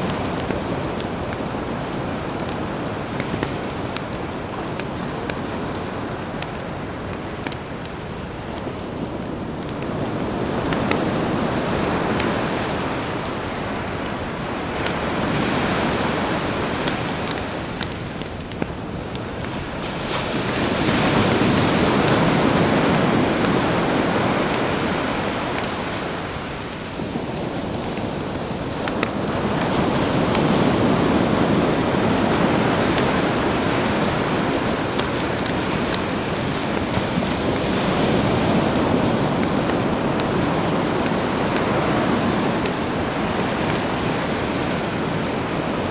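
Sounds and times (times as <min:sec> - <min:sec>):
campfire crackling: 0:00.0 - 0:45.9
sea waves washing ashore: 0:00.0 - 0:45.9.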